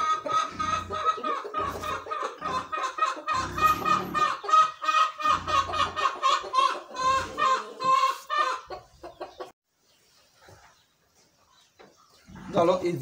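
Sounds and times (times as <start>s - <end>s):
chicken clucking: 0.0s - 12.9s.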